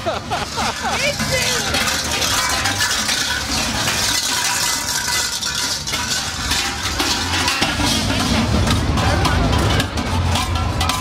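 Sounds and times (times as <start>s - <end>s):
costume bells clanking and jangling: 0.0s - 11.0s.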